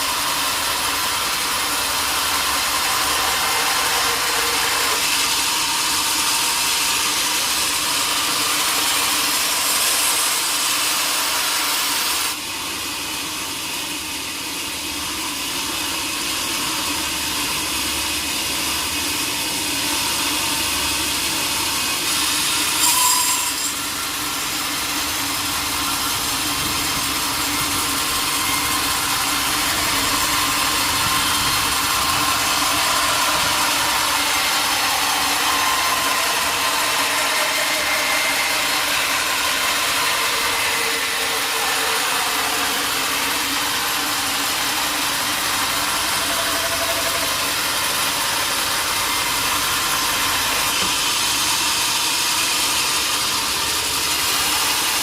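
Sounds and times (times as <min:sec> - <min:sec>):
saw rasping through log: 0:00.0 - 0:12.4, 0:19.8 - 0:55.0.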